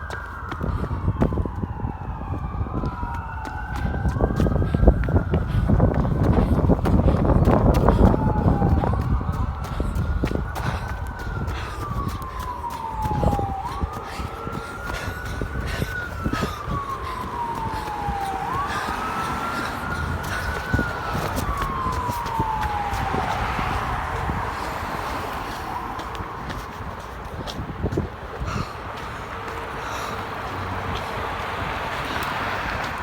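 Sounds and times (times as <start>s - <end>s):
fire siren wailing: 0.0s - 33.0s
wind noise on microphone: 0.0s - 33.0s.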